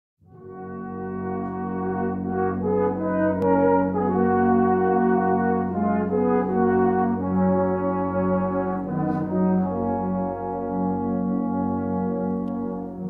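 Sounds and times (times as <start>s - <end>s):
brass band playing chords: 0.2s - 13.0s.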